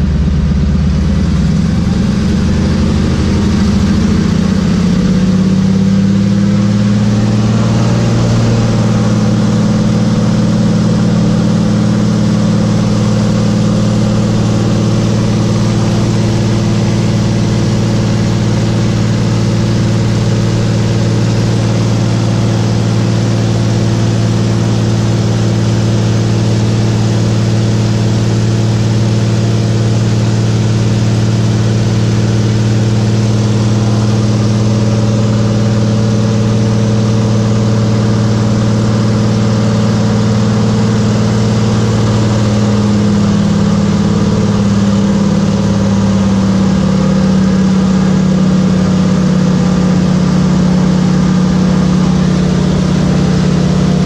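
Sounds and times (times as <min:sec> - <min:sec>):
airplane piston engine and propeller: 0:00.0 - 0:54.0.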